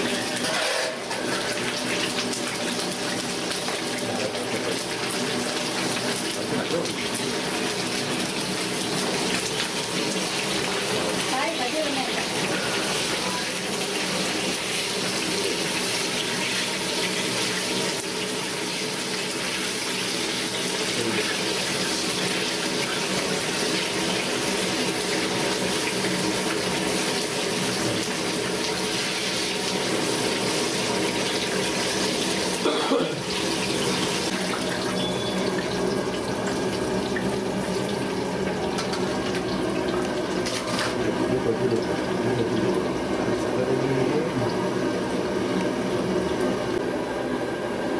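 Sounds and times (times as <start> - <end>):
peppers sizzling in oil: 0.0 - 46.8.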